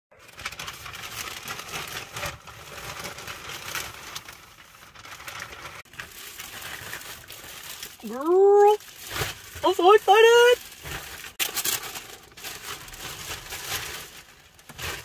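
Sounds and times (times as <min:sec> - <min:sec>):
plastic bag crinkling: 0:00.2 - 0:15.0.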